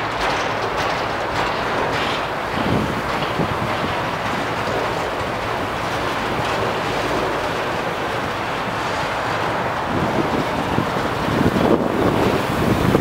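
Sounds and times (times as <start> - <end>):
freight cars rolling on rails: 0.0 - 13.0
wind on microphone: 0.0 - 13.0.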